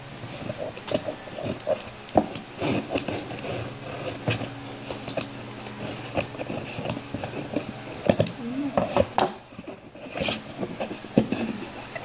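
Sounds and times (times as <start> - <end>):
shears cutting tape on cardboard: 0.2 - 12.0.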